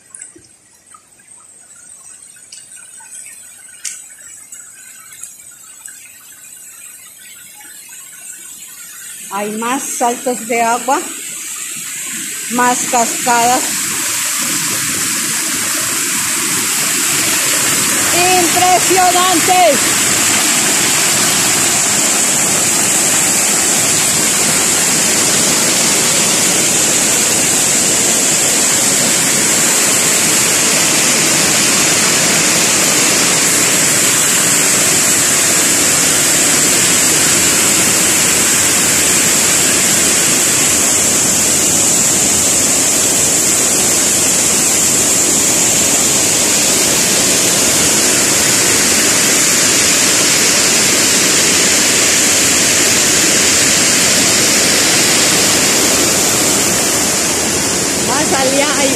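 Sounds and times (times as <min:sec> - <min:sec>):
waterfall rushing: 0:09.0 - 0:58.9.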